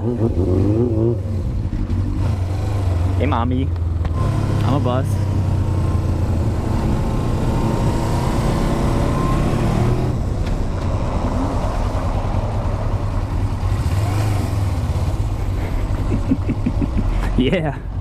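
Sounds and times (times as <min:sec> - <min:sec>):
motorcycle engine accelerating: 0:00.0 - 0:17.8.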